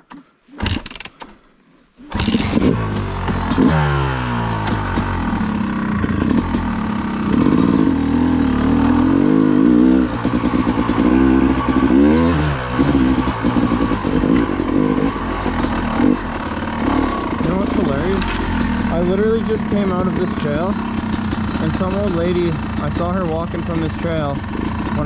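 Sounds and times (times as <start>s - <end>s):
dirt bike engine revving: 2.1s - 25.0s.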